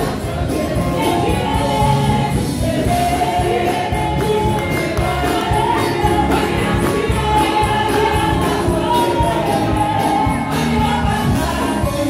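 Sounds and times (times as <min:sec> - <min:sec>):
congregation singing over a beat: 0:00.0 - 0:12.0.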